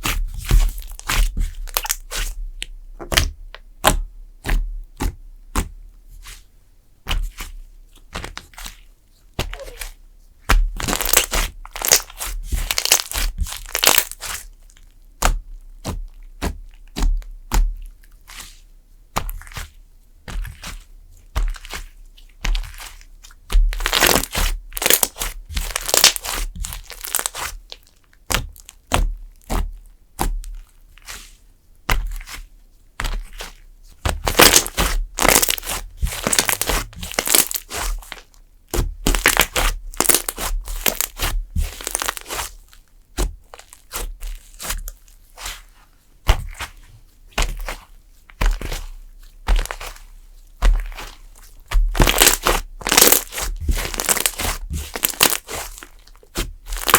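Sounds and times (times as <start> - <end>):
clay slime squishing: 0.0 - 56.9.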